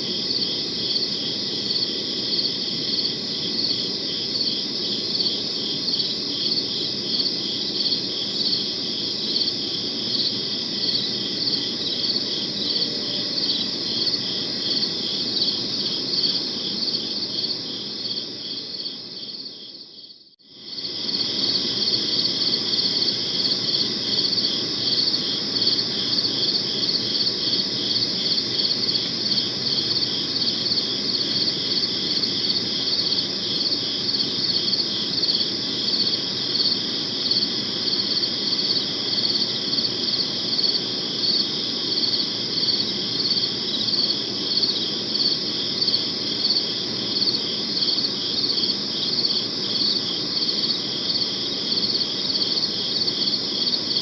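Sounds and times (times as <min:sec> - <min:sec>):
crickets chirping: 0:00.0 - 0:54.0
steady background hiss: 0:00.0 - 0:54.0.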